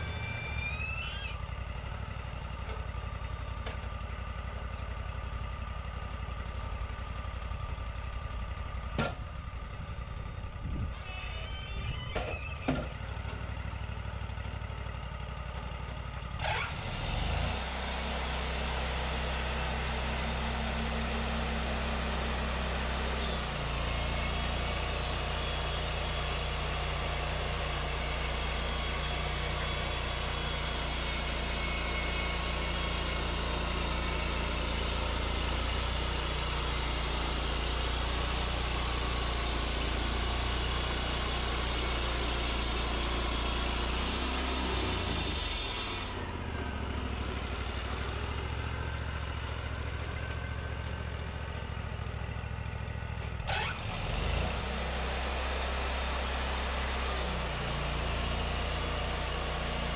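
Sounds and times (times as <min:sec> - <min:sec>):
sawmill engine drone: 0:00.0 - 0:59.9.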